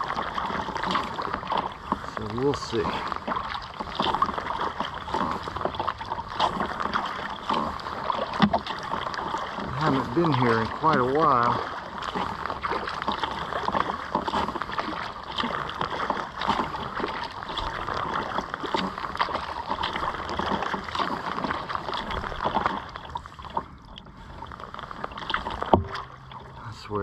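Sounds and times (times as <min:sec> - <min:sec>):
water splashing around kayak: 0:00.0 - 0:27.0.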